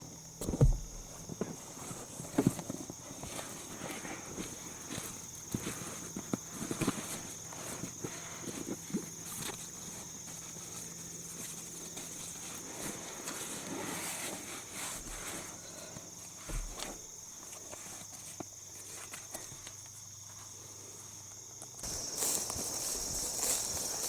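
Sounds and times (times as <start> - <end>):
crickets chirping: 0.0 - 24.0
footsteps clicks and rustles: 0.4 - 20.6, 21.3 - 24.0.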